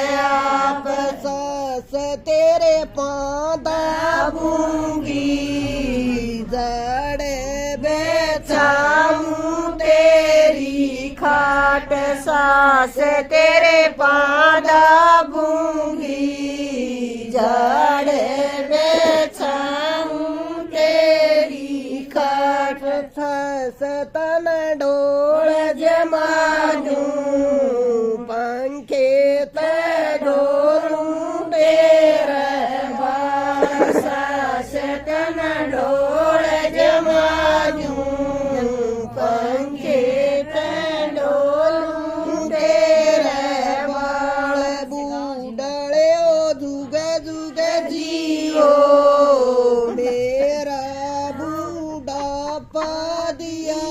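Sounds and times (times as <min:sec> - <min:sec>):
women singing a folk song: 0:00.0 - 0:06.7, 0:07.8 - 0:53.9.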